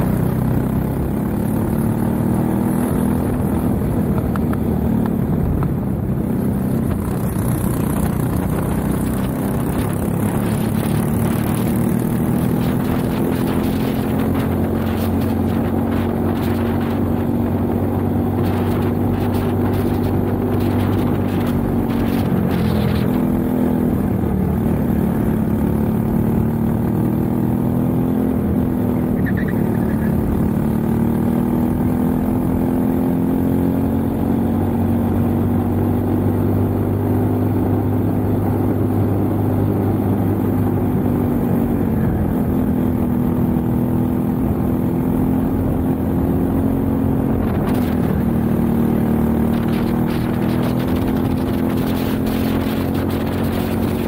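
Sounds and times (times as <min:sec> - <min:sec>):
kart engine running hard: 0:00.0 - 0:32.6, 0:33.2 - 0:54.0.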